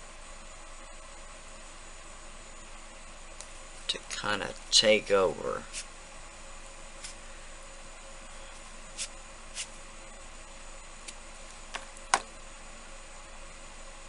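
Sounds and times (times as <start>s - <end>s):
air conditioner running: 0.0s - 14.0s.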